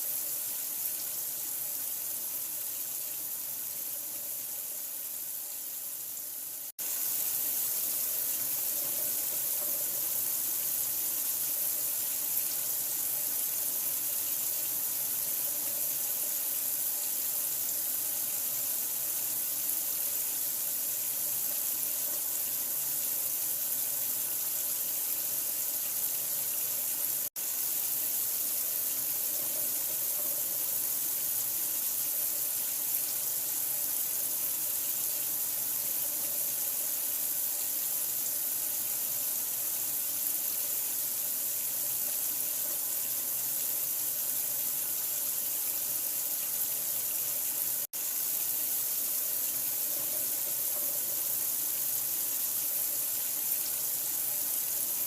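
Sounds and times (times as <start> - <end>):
water running: 0.0 - 55.0.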